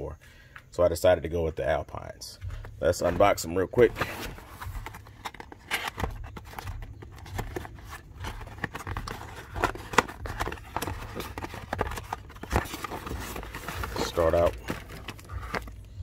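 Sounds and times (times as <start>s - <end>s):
cardboard and paper handling: 2.5s - 16.0s.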